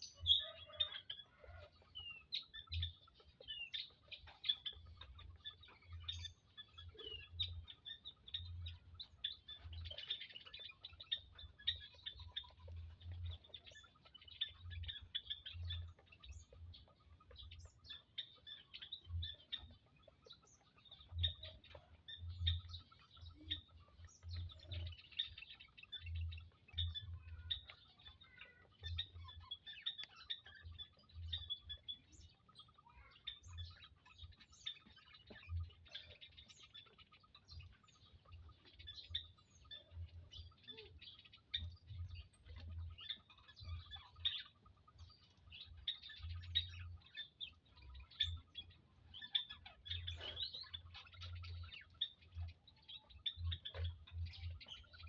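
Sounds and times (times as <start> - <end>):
quail chirping: 0.0 - 55.0.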